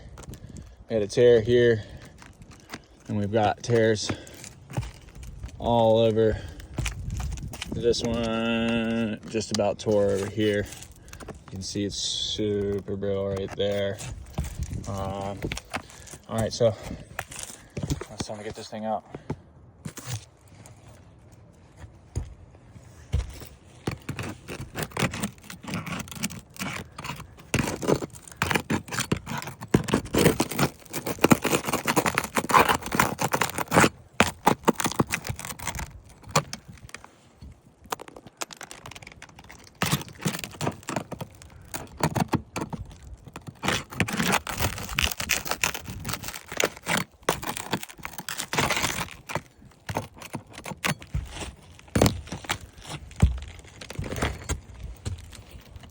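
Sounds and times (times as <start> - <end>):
pry bar scraping under shingle: 0.0 - 55.9
shingle crackling and tearing: 0.0 - 55.9.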